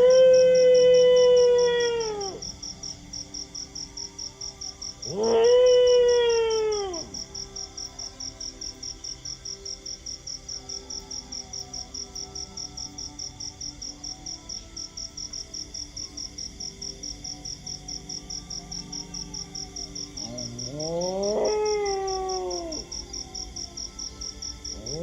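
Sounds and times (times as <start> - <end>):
crickets chirping: 0.0 - 25.0
faint background music: 0.0 - 25.0.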